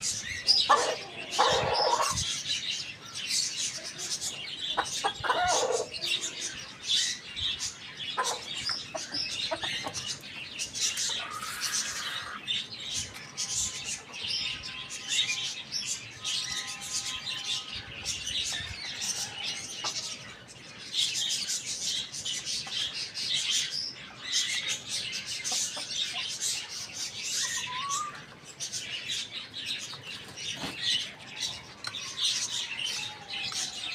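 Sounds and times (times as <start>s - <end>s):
chicken calls: 0.0s - 20.5s, 22.1s - 33.9s
high chirping of chicks: 0.0s - 33.9s.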